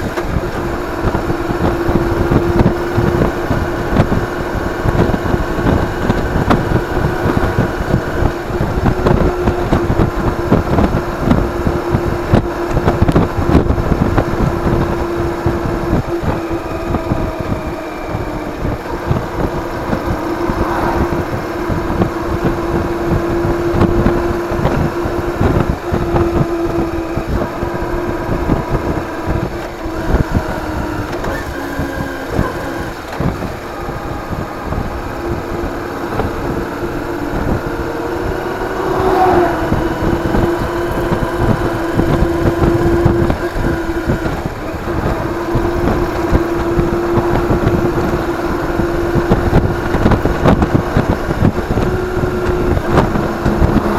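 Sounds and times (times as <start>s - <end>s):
motorcycle engine cruising: 0.0s - 53.9s
wind buffeting microphone: 0.0s - 53.9s.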